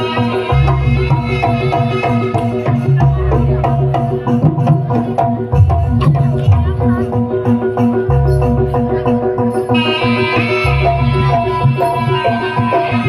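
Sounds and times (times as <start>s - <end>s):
drums: 0.0s - 13.0s
mallet-struck pitched percussion: 0.0s - 13.0s.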